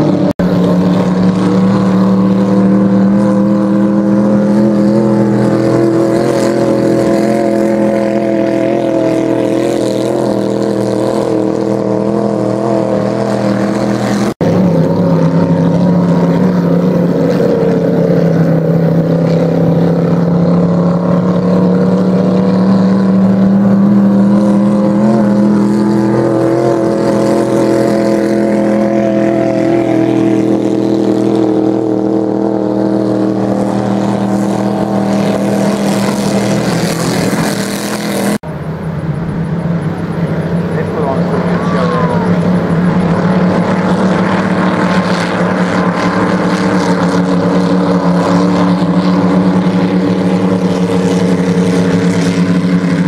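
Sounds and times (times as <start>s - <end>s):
race boat engines droning: 0.0s - 53.0s.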